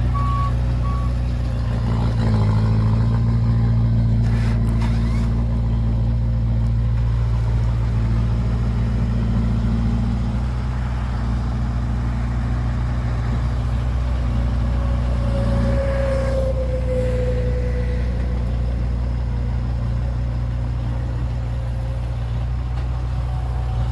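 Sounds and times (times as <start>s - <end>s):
diesel engine running at low revs: 0.0s - 23.9s.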